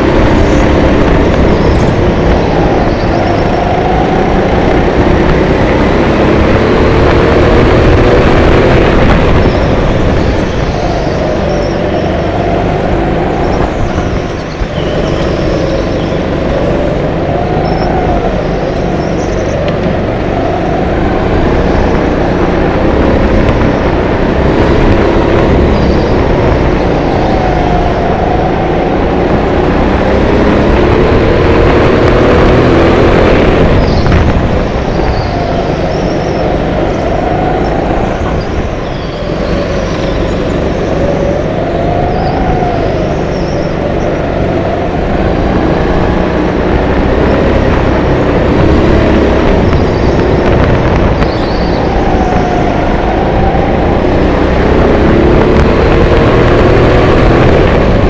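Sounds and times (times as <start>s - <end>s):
go-kart engine revving: 0.0s - 58.0s
loud steady noise: 0.0s - 58.0s.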